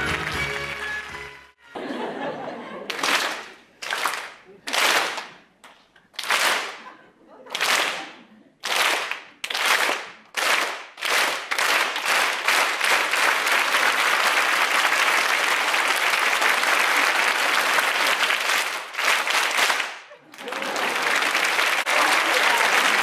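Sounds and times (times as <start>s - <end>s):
audience applauding: 0.0s - 1.5s, 2.8s - 6.9s, 7.5s - 23.0s.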